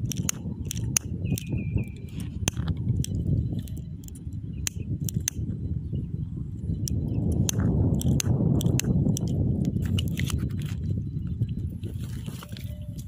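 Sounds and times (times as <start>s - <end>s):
sharp clicks and pops: 0.0s - 5.6s, 6.7s - 12.6s
wind rumble on microphone: 0.0s - 13.0s.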